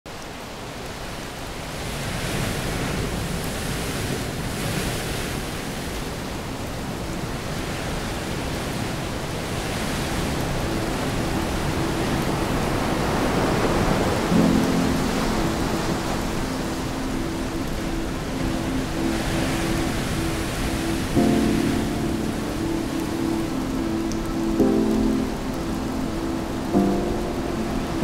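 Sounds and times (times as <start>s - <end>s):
wind: 0.1s - 28.0s.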